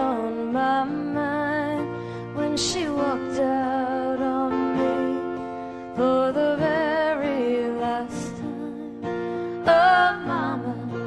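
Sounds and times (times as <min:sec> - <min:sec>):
slow song with acoustic guitar: 0:00.0 - 0:11.0.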